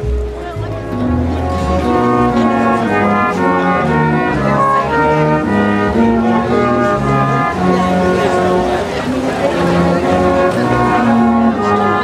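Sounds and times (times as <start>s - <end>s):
brass group playing slow tune: 0.0s - 12.0s.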